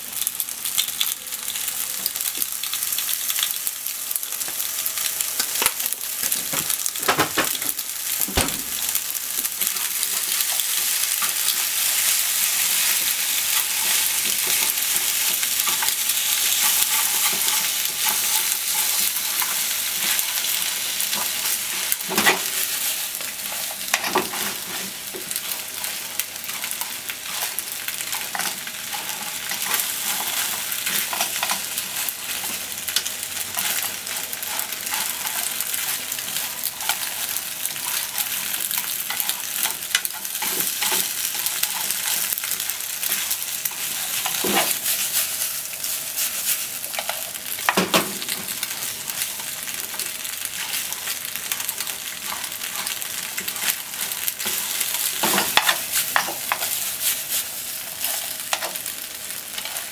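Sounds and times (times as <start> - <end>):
food sizzling in frying pan: 0.0 - 59.9.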